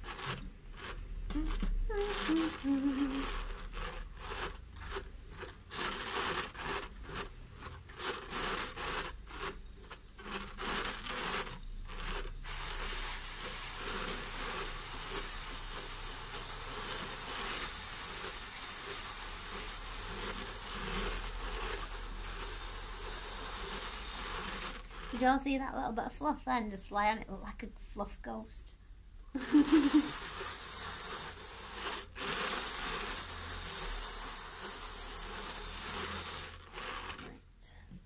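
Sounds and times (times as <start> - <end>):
brush hissing on spinning drum: 0.0 - 25.4, 29.4 - 37.4
drum carder fibre rasping: 0.0 - 25.4, 29.5 - 37.4.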